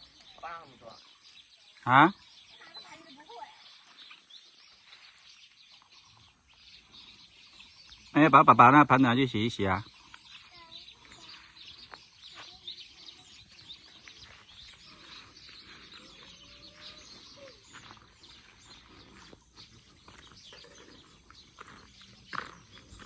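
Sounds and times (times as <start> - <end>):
small bird chirps: 0.0 - 23.0.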